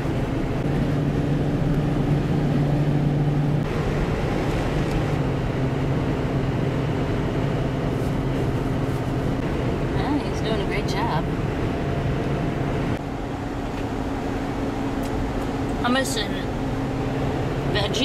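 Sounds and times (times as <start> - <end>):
car engine hum: 0.0 - 18.0
tyre road noise: 0.0 - 18.0.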